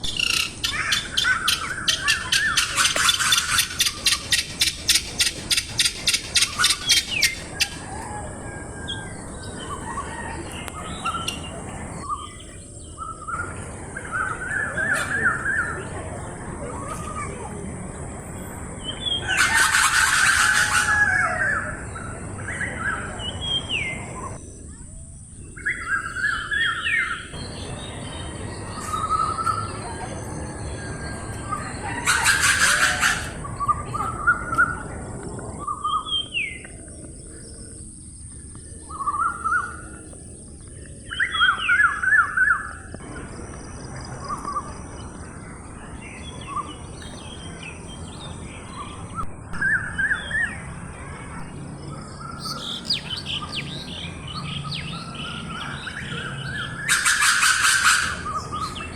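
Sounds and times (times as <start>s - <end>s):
birds chirping: 0.0s - 58.9s
harsh noisy bird calls: 0.0s - 58.9s.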